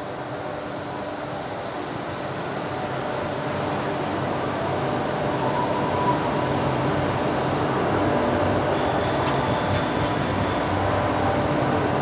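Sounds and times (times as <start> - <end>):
machinery humming and hissing: 0.0 - 12.0.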